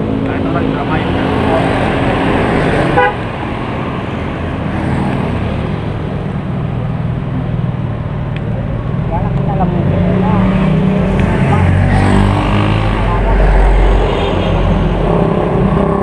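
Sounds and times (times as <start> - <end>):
road traffic: 0.0 - 16.0
vehicle engine droning: 0.0 - 16.0.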